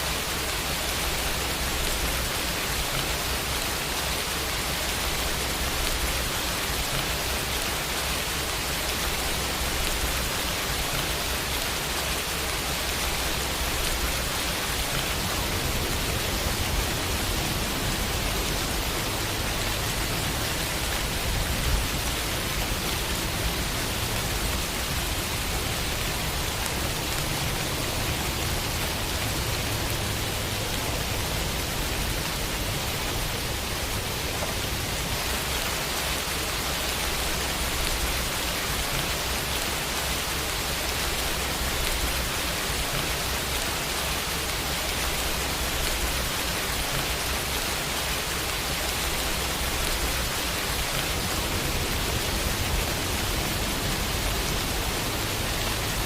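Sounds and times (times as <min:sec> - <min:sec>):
rain falling on a window: 0:00.0 - 0:56.0.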